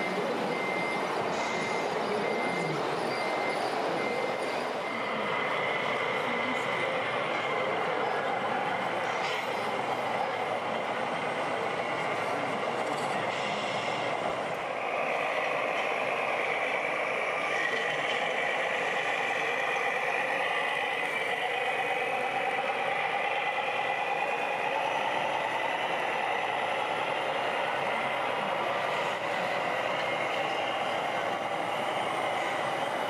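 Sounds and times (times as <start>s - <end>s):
rc trucks engine-like whine: 0.0s - 33.0s.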